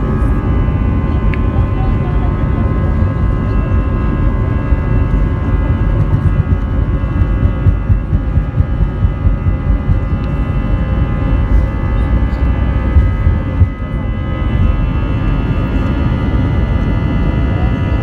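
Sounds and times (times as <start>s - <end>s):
high-pitched fan whines: 0.0s - 18.0s
jet engines rumbling: 0.0s - 18.0s.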